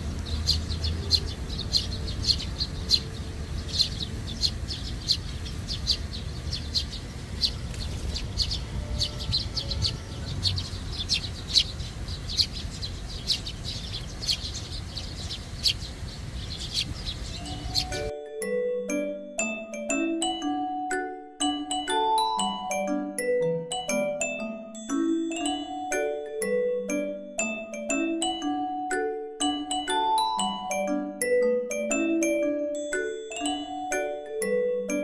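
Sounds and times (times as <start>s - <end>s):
sparrows chirping: 0.0s - 35.0s.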